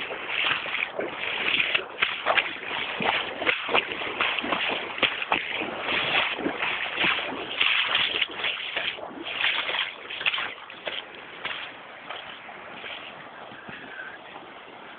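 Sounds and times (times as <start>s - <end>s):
water splashing in a stream: 0.0s - 13.6s.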